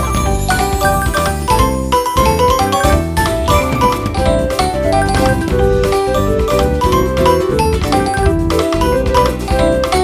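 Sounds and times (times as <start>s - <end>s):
upbeat music with bell-like notes: 0.0s - 10.0s.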